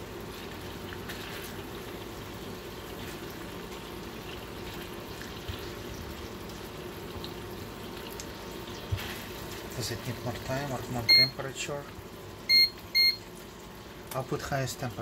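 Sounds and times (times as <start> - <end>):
meat sizzling in a skillet: 0.0 - 12.4.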